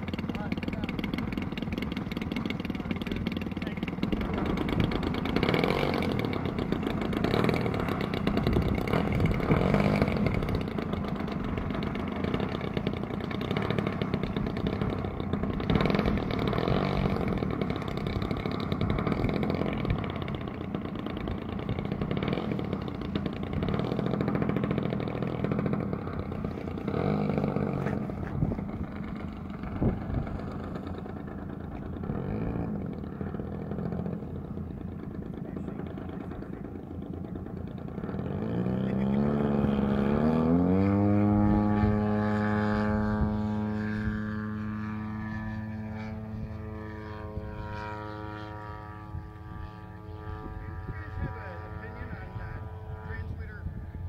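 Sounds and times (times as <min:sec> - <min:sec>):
model airplane engine and propeller: 0:00.0 - 0:54.0.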